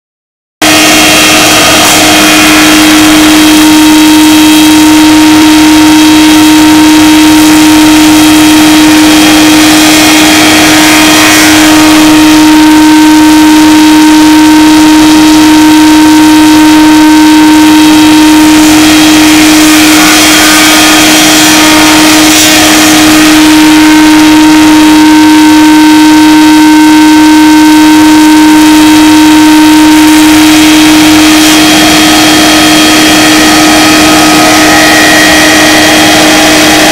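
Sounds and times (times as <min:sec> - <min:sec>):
rushing wood cutting noise: 0:00.6 - 0:25.5, 0:28.9 - 0:36.9
wood shaper humming: 0:00.6 - 0:36.9.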